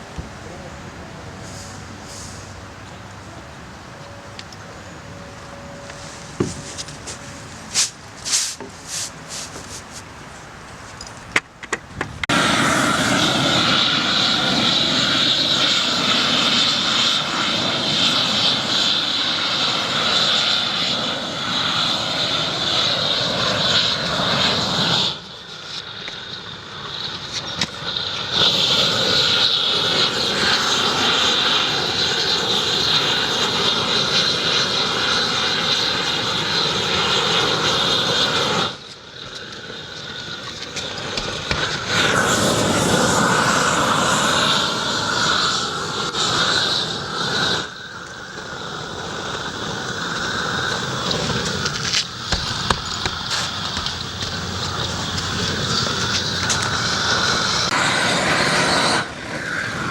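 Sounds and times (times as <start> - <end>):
loud engine-like drone: 0.0 - 11.2, 12.2 - 59.9.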